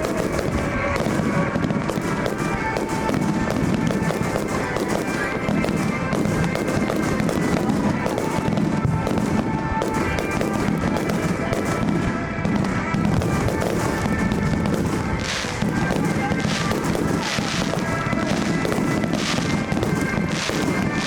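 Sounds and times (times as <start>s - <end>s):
fireworks bursting and crackling: 0.0s - 21.0s
music: 0.0s - 21.0s.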